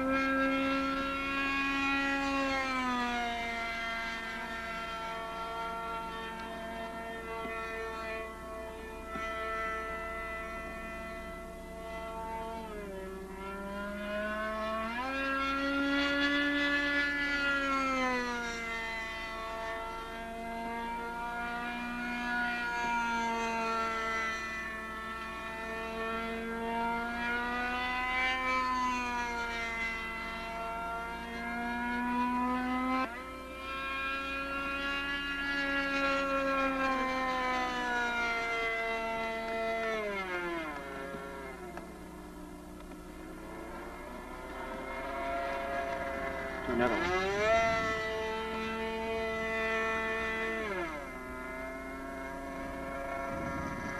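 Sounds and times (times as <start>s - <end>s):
model plane engine buzzing: 0.0s - 53.9s.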